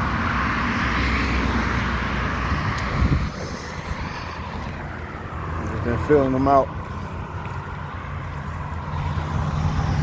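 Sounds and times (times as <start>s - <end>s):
vehicle passing: 0.0s - 10.0s.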